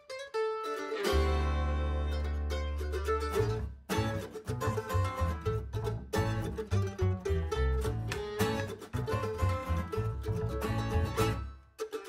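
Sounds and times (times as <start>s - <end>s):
plucked acoustic strings music: 0.0s - 12.0s.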